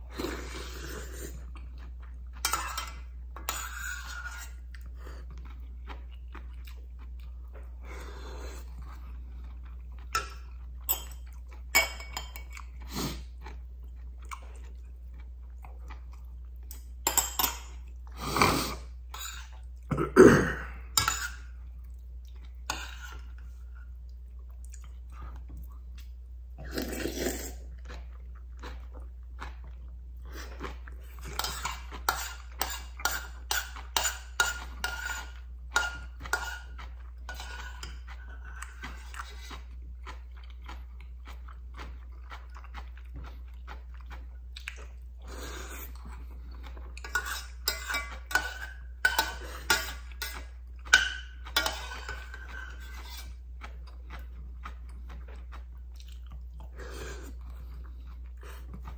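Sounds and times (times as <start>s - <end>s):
chewing and slurping: 0.0s - 17.0s, 20.9s - 58.9s.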